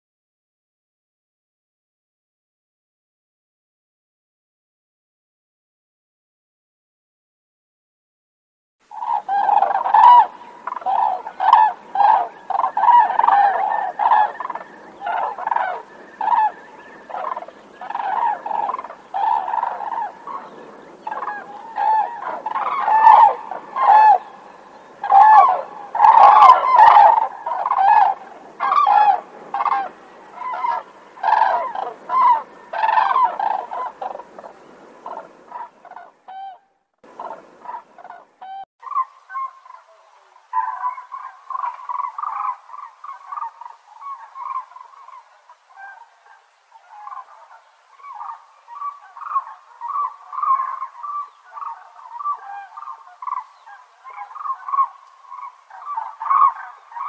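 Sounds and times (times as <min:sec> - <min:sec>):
cranes calling: 0:08.9 - 0:57.0.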